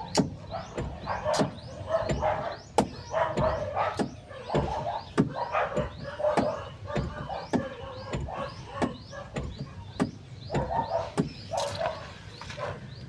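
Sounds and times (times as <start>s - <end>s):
birds chirping: 0.0s - 13.0s
sharp knocks: 0.1s - 11.5s.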